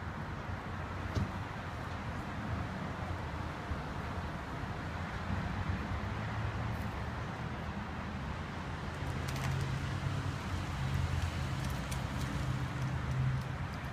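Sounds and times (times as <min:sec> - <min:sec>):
low rumble of road traffic: 0:00.0 - 0:13.9.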